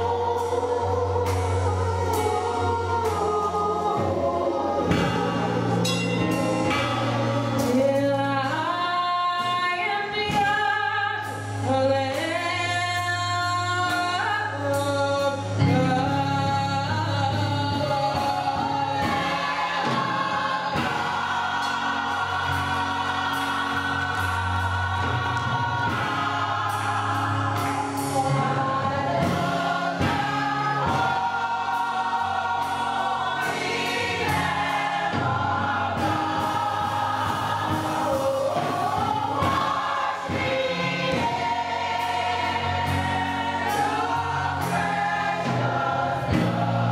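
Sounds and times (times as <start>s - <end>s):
band accompaniment: 0.0s - 46.9s
gospel choir singing: 0.0s - 46.9s.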